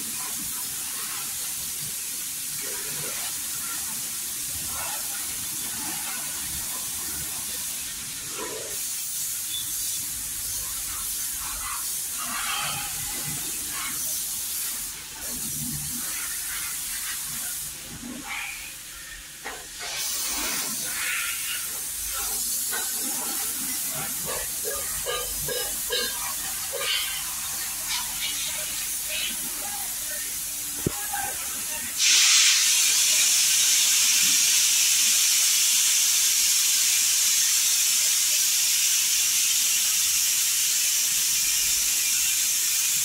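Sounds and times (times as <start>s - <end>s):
pressurised spray hissing: 0.0s - 43.0s.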